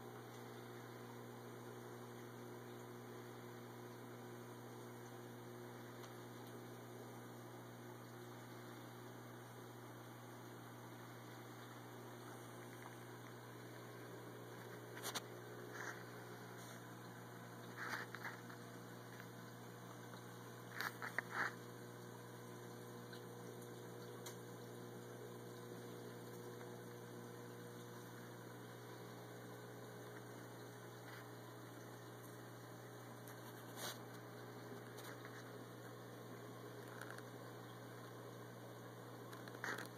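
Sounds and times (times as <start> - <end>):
aquarium pumps humming: 0.0 - 39.9.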